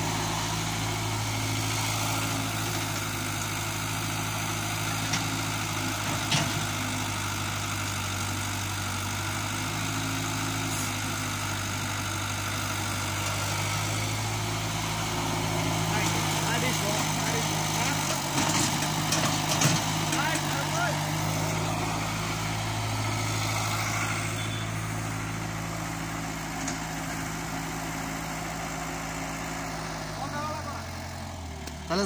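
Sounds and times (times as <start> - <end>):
excavator diesel engine idling: 0.0 - 32.0.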